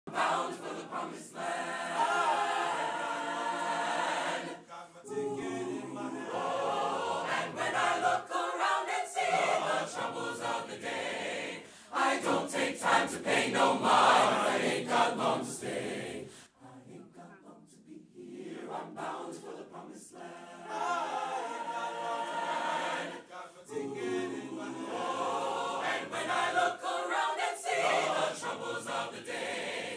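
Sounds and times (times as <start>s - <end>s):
choir singing a cappella: 0.0s - 29.9s.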